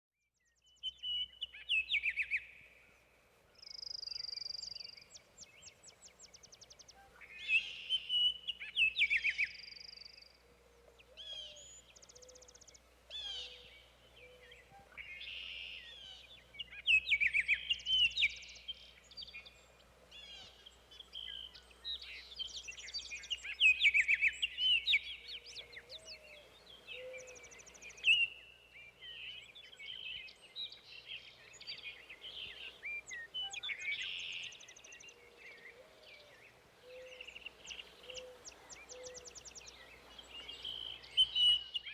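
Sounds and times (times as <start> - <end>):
songbirds singing: 0.3 - 41.9.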